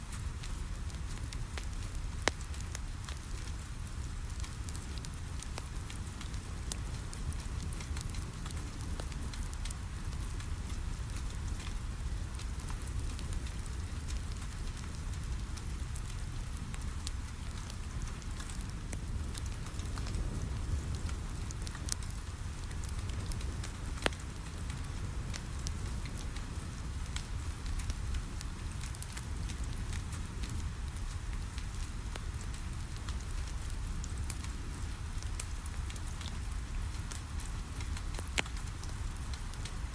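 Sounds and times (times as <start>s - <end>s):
steady rain: 0.0s - 39.9s
wood fire crackling and popping: 0.1s - 39.9s.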